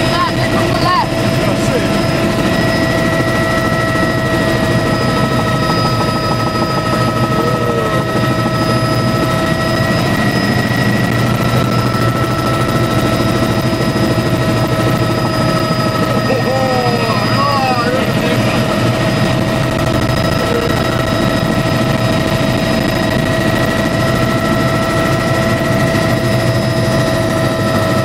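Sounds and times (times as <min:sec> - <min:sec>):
helicopter engine and rotor rumble: 0:00.0 - 0:28.0
high whining tones: 0:00.0 - 0:28.0.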